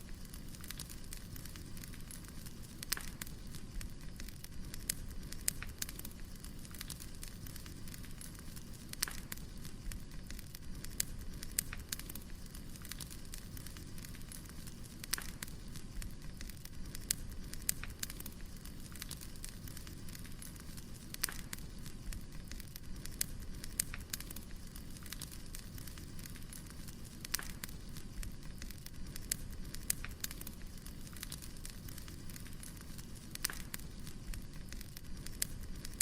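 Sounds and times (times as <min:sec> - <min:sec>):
firewood crackling and popping: 0:00.0 - 0:36.0.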